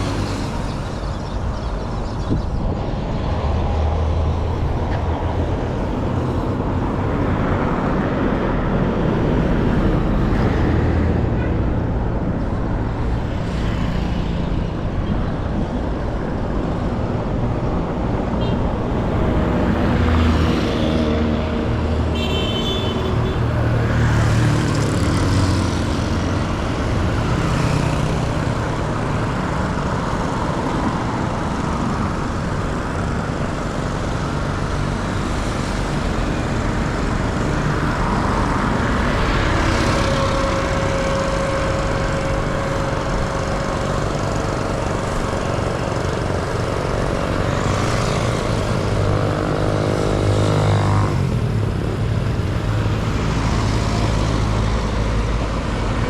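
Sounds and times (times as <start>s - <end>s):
road noise hum: 0.0s - 56.0s
vehicle engines running: 0.0s - 56.0s.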